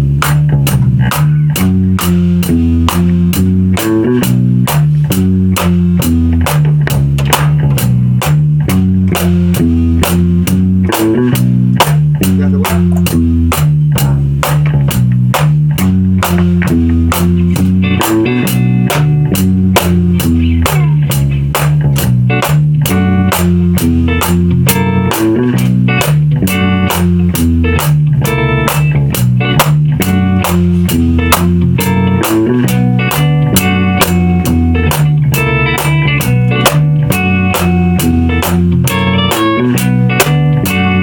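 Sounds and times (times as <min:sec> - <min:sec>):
bass guitar line: 0:00.0 - 0:41.0
drum kit beat: 0:00.0 - 0:41.0
guitar: 0:00.0 - 0:41.0
higher guitar line: 0:00.0 - 0:41.0.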